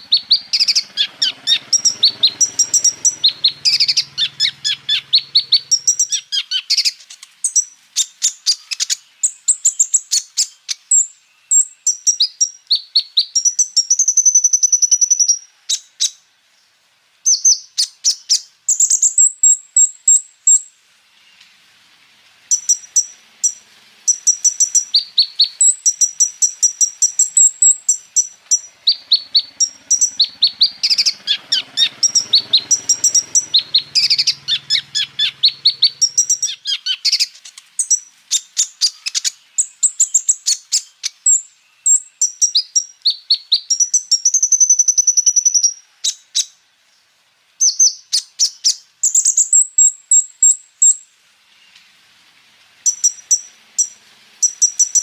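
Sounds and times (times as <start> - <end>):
sunbird singing chirps and trills: 0.0 - 52.0, 52.7 - 55.0.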